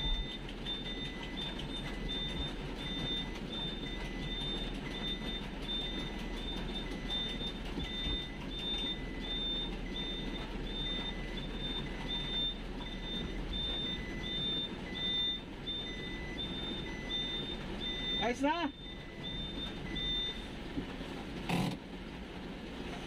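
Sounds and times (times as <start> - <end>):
reversing alarm beeping: 0.0 - 20.5
van engine rumble: 0.0 - 23.0.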